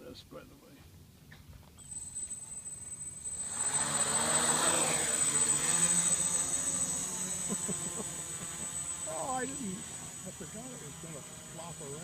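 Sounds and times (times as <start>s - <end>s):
drone motors whining: 1.8s - 12.0s
propellers buzzing: 1.8s - 12.0s.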